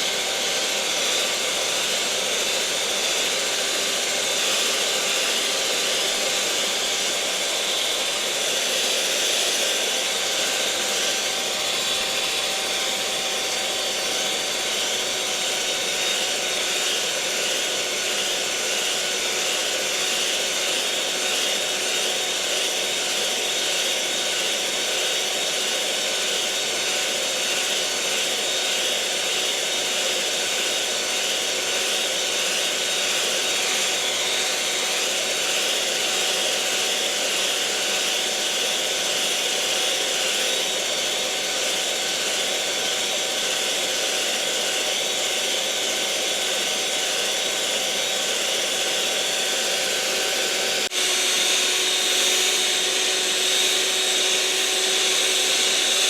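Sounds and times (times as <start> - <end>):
electric mixer motor whirring: 0.0 - 56.0.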